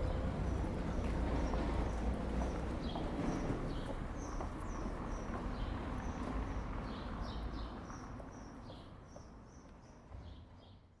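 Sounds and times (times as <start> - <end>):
low urban hum: 0.0 - 11.0
small birds chirping: 0.0 - 11.0.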